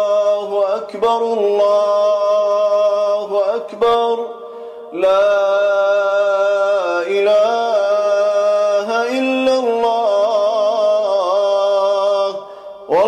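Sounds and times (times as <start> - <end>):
man chanting melodic recitation: 0.0 - 13.0.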